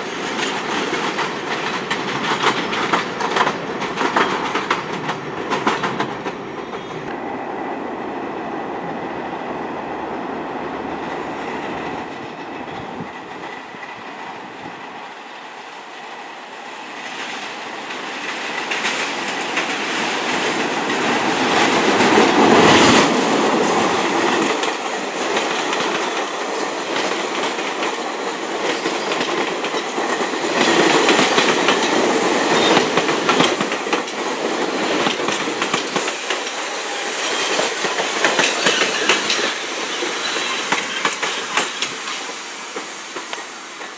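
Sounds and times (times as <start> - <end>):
subway train wheels clattering: 0.0 - 43.9
train rushing past: 0.0 - 43.9.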